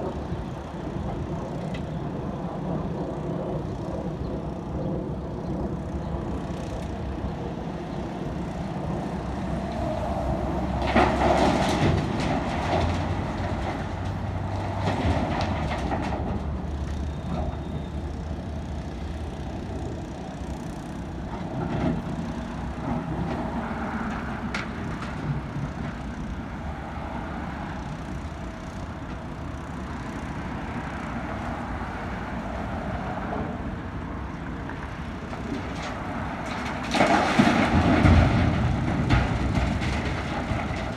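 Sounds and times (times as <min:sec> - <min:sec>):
excavator engine running: 0:00.0 - 0:40.9.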